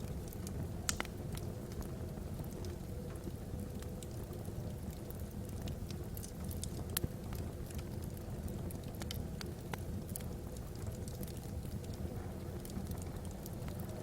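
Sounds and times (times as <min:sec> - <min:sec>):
logs crackling and popping: 0:00.0 - 0:14.0
low rumble of fire: 0:00.0 - 0:14.0.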